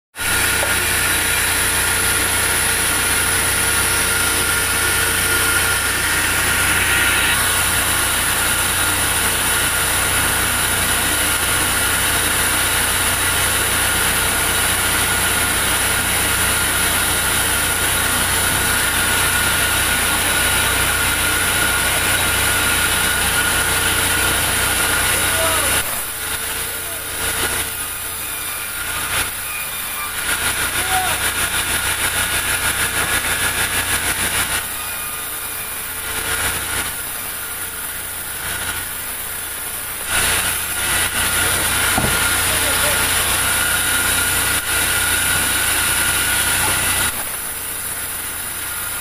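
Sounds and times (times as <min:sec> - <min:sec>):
band saw machine hum: 0:00.2 - 0:49.0
high saw whine: 0:00.2 - 0:49.0.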